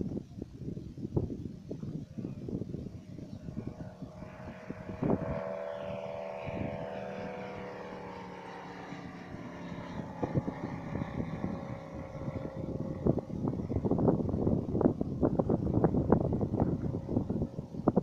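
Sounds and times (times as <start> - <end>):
biplane engine flying past: 0.0 - 18.0
wind buffeting microphone: 0.0 - 18.0.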